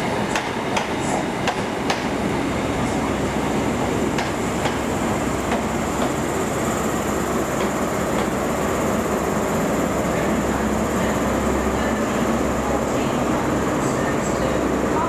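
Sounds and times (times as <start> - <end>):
train rumbling slowly: 0.0 - 15.0.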